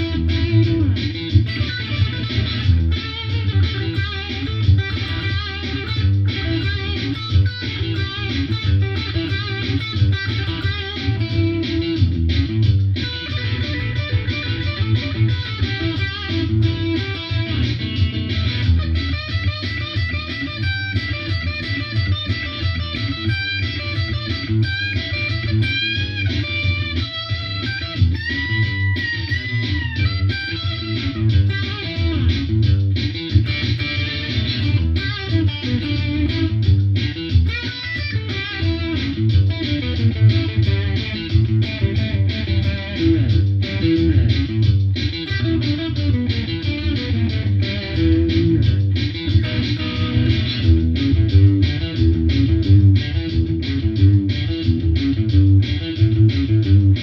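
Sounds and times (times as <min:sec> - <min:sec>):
electric guitar blues lead: 0:00.0 - 0:57.0
steady low bass: 0:00.0 - 0:57.0.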